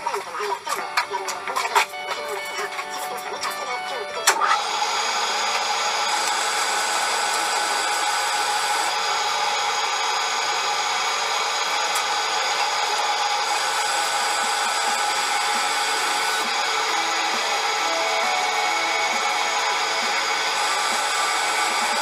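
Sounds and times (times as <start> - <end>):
lathe whirring: 0.0 - 22.0.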